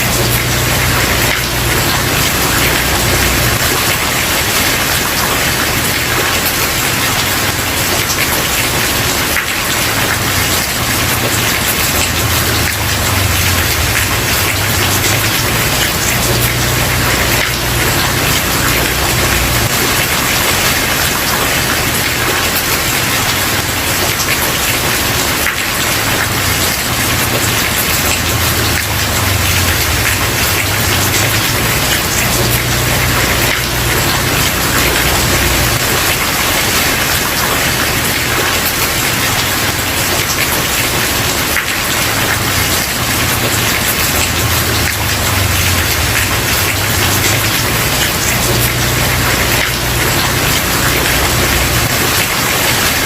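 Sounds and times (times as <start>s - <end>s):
heavy rain on wooden porch: 0.0s - 53.0s.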